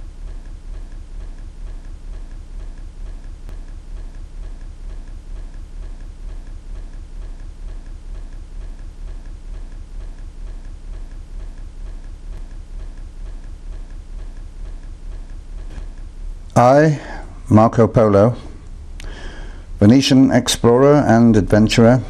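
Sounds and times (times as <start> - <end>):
clock ticking: 0.0 - 22.0
low steady hum: 0.0 - 22.0.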